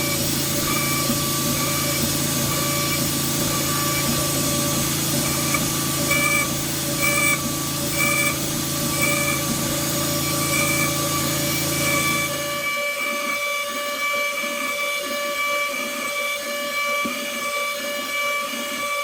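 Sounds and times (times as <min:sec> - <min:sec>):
router spindle milling wood: 0:00.0 - 0:19.0.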